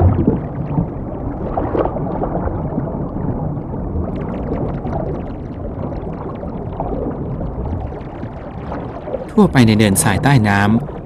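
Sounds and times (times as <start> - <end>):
crackling bubbling ticks: 0.0 - 9.4
underwater rumbling wash: 0.0 - 11.0.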